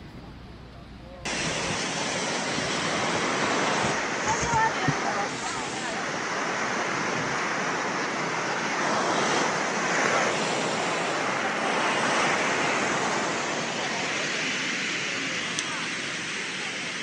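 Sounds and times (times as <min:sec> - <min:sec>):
surf breaking on beach: 0:01.2 - 0:17.0.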